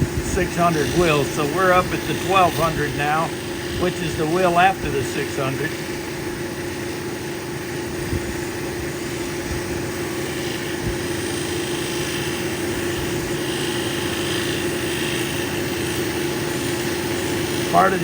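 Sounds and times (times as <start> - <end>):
grinding machine motor humming: 0.0 - 18.0.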